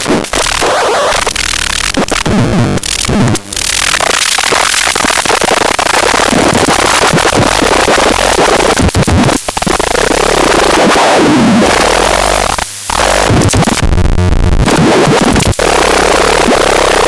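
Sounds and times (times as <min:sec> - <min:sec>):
harsh distorted electronic music: 0:00.0 - 0:17.0.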